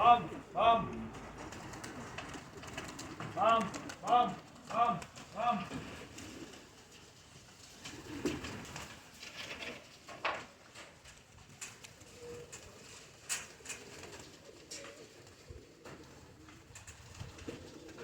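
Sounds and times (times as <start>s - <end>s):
pigeons cooing: 0.0s - 9.9s, 11.8s - 18.0s.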